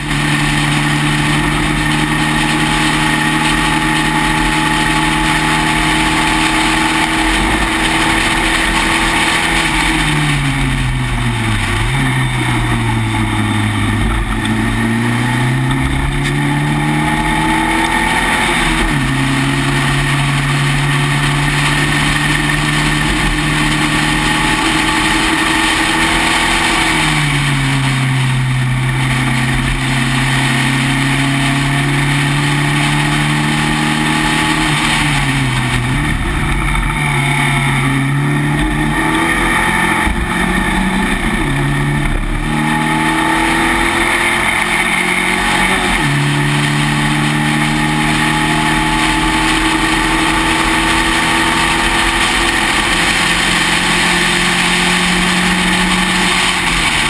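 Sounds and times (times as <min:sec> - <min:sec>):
racing car engine: 0:00.0 - 0:57.0
wind and road noise: 0:00.0 - 0:57.0.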